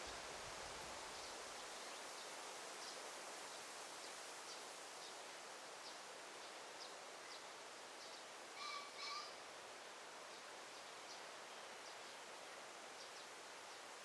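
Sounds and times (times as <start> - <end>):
leaves and air hissing: 0.0 - 14.0.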